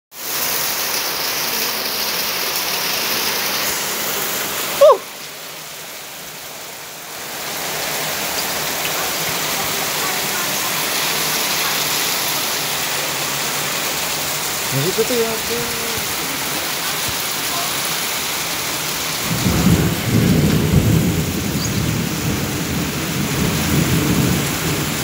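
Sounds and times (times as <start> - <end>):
heavy rain pouring: 0.1 - 25.0.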